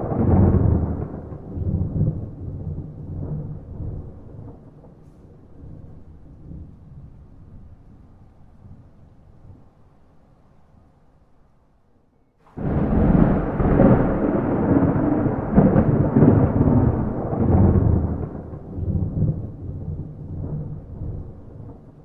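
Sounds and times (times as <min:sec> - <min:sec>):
thunder clap and rumble: 0:00.0 - 0:09.7, 0:12.5 - 0:22.0.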